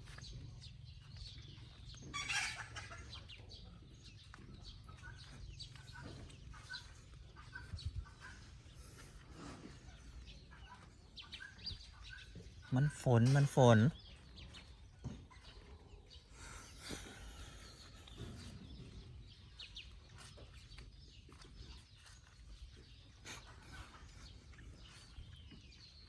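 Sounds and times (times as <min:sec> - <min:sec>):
distant chicken clucking: 0:00.0 - 0:26.0
faint village ambience: 0:00.0 - 0:26.0.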